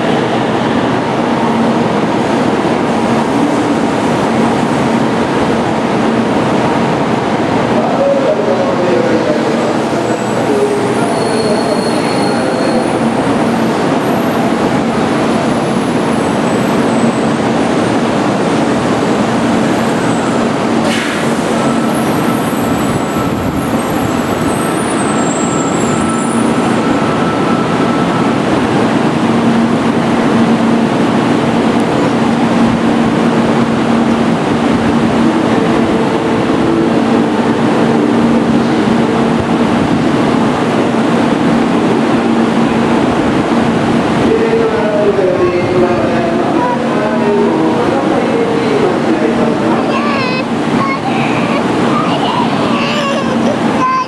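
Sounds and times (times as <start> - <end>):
train rolling to a stop: 0.0 - 45.0
train humming: 0.0 - 54.0.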